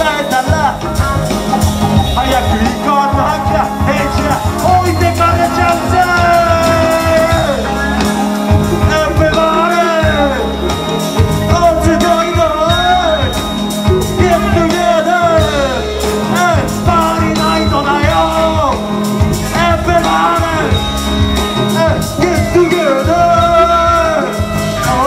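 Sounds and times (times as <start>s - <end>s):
bass guitar: 0.0s - 25.0s
drums: 0.0s - 25.0s.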